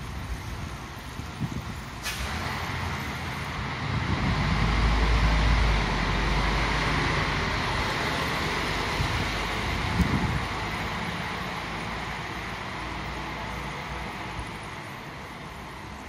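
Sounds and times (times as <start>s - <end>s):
bus engine running: 0.0s - 16.0s
traffic noise: 0.0s - 16.0s.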